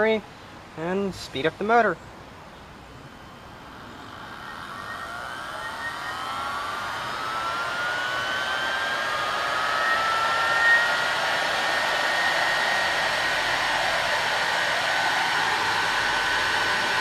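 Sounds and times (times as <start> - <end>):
vacuum cleaner motor whining: 3.2 - 17.0.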